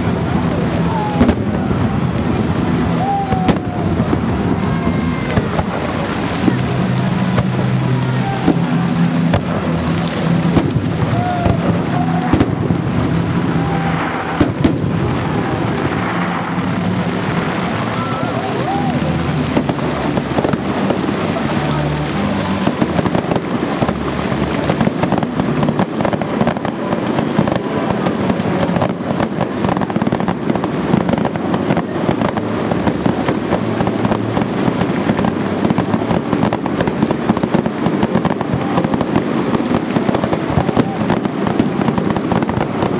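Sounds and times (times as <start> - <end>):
crowd talking: 0.0 - 42.9
fireworks bangs and crackling: 0.0 - 42.9.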